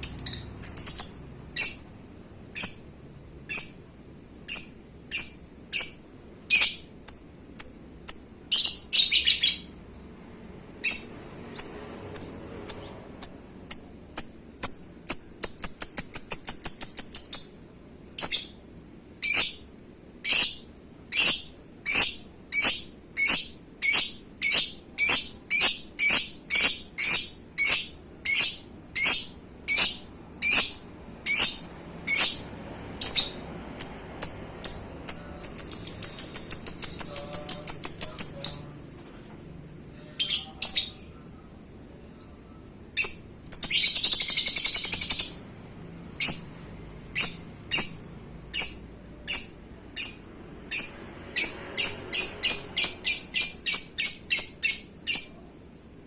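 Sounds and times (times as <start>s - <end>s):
lovebird chirping and trilling: 0.0s - 9.8s, 10.8s - 17.6s, 18.2s - 38.8s, 40.2s - 41.2s, 43.0s - 45.5s, 46.1s - 55.5s.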